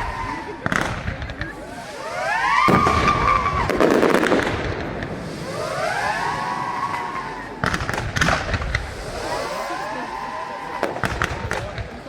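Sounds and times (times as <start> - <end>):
firework bangs: 0.0 - 12.0
firework rush and crackle: 0.0 - 12.0
whistling firework: 0.0 - 12.0.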